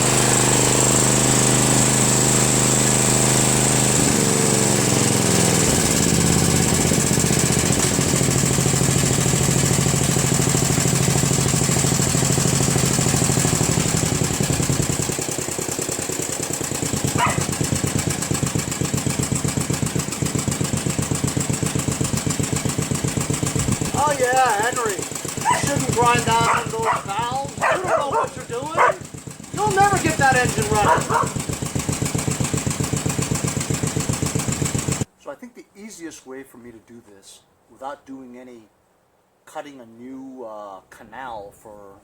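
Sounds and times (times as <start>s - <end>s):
lawn tractor engine running: 0.0s - 35.1s.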